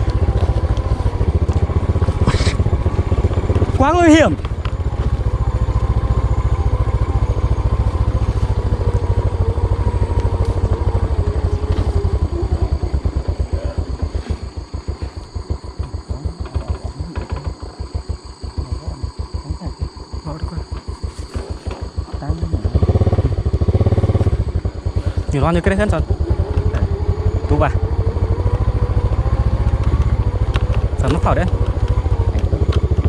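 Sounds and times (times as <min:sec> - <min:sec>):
small motorcycle engine running: 0:00.0 - 0:33.0.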